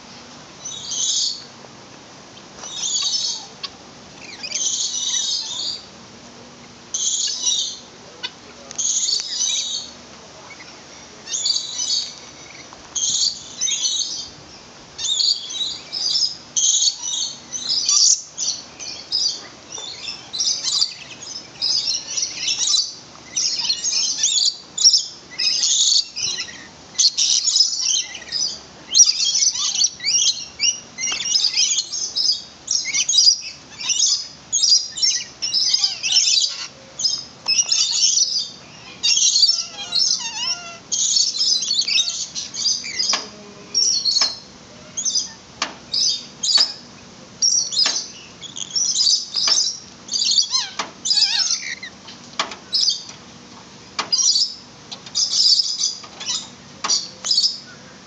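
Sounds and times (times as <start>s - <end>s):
lorikeets screeching: 0.6s - 1.5s, 2.4s - 5.9s, 6.9s - 53.1s, 54.0s - 58.0s.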